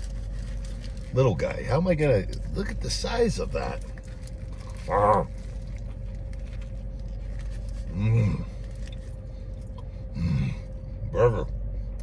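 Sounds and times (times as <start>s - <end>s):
low hum inside a car: 0.0s - 12.0s
man chewing a burger: 0.0s - 12.0s.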